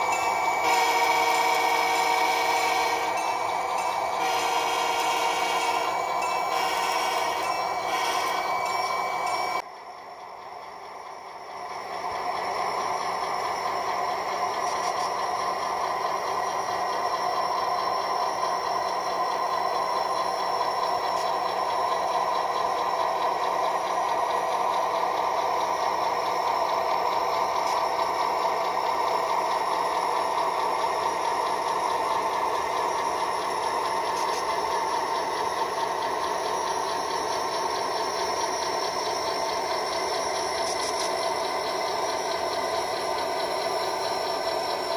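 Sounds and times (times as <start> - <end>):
model train hum and rattle: 0.0 - 44.9.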